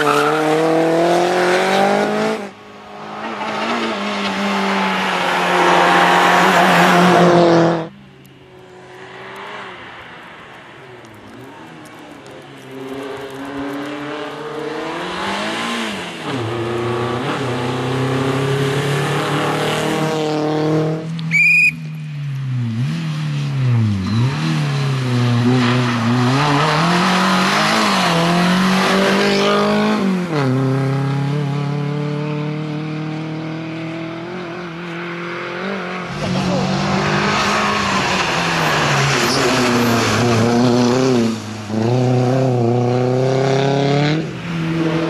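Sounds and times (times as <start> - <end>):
rally car engine revving: 0.0 - 7.9, 12.6 - 21.3, 21.9 - 45.0.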